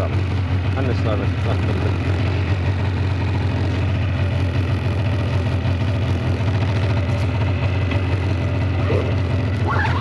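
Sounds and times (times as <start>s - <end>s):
snowmobile engine idling: 0.0s - 10.0s.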